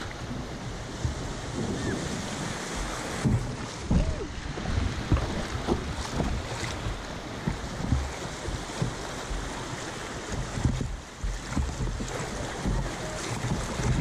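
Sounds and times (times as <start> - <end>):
water splashing against kayak hull: 0.0 - 14.0
white water rushing: 0.0 - 14.0
wind buffeting microphone: 0.0 - 14.0.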